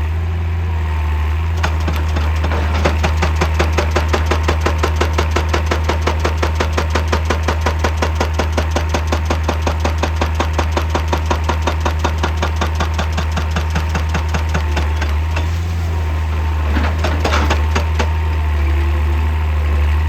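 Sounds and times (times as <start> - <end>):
diesel engine running: 0.0 - 20.0
hydraulic rock breaker hammering: 1.5 - 19.4.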